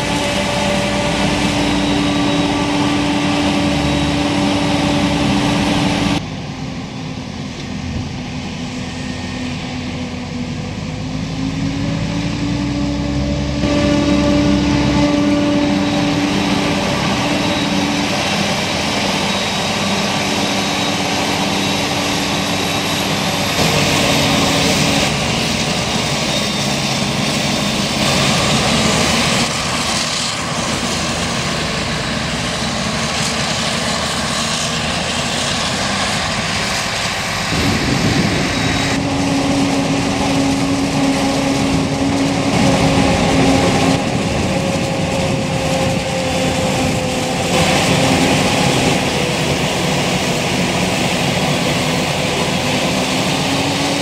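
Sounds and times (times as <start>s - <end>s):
chopper and crop rushing: 0.0s - 54.0s
heavy engine drone: 0.0s - 54.0s
tractor running: 0.0s - 54.0s.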